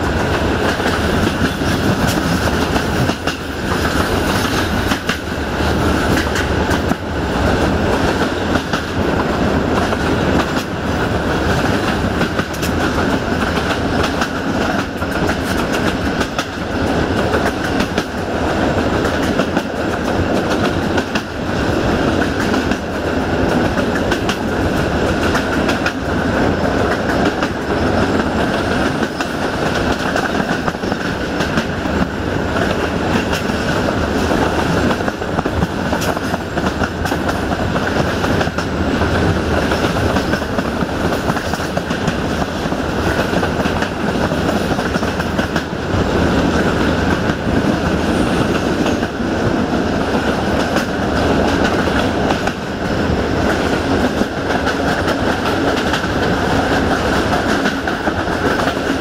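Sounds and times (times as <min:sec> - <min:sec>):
rail joint clicks: 0:00.0 - 0:59.0
train wheels rumbling on track: 0:00.0 - 0:59.0.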